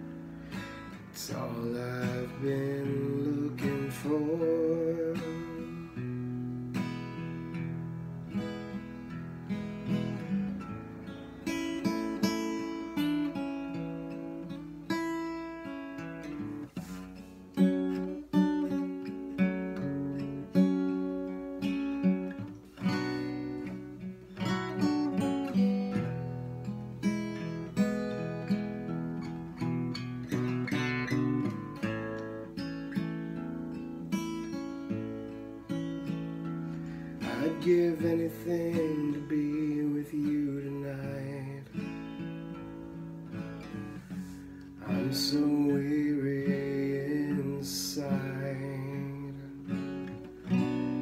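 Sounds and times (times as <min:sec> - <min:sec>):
acoustic guitar playing: 0:00.0 - 0:51.0.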